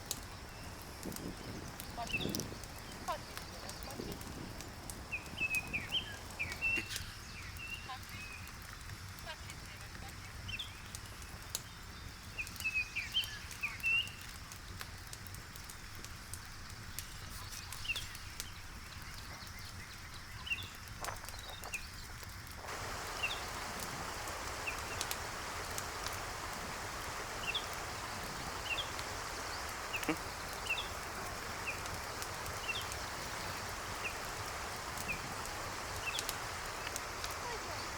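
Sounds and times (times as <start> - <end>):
birds chirping: 0.0 - 14.2, 16.8 - 37.9
steady hiss: 0.0 - 37.9
wood fire crackling: 0.0 - 37.9.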